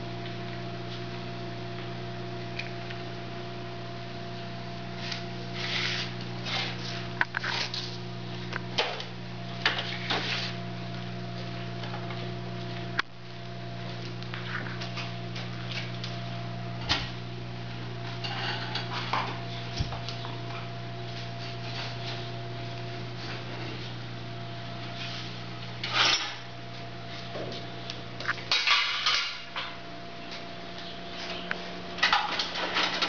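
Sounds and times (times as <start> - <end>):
forge blower electric hum: 0.0 - 33.0.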